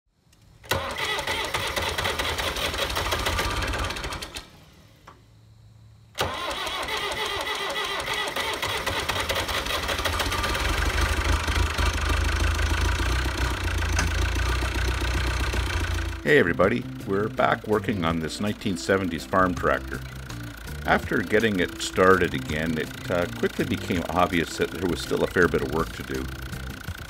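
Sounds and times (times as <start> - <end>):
tractor diesel engine running: 0.6 - 5.0, 6.2 - 27.0.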